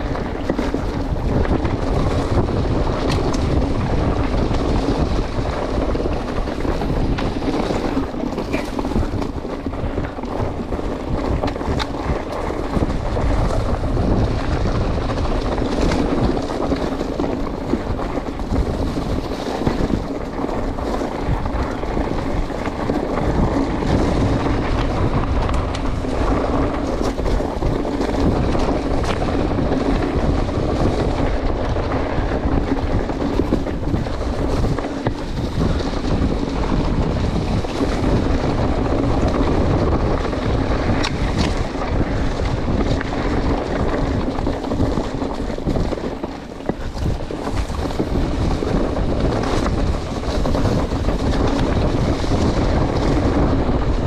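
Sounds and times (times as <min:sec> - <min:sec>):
bike knocks and rattles: 0:00.0 - 0:54.0
tyres rolling over dirt: 0:00.0 - 0:54.0
wind buffeting microphone: 0:00.0 - 0:54.0.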